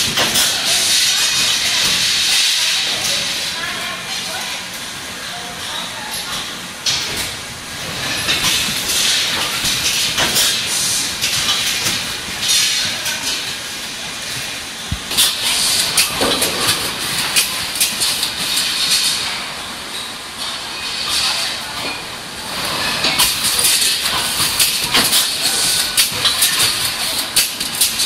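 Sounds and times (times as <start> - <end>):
labeller and conveyor running: 0.0 - 28.0.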